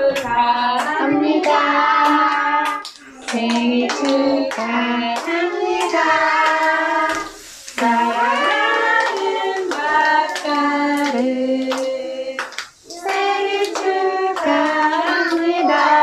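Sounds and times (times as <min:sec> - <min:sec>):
children clapping in time: 0:00.0 - 0:16.0
children singing: 0:00.0 - 0:16.0.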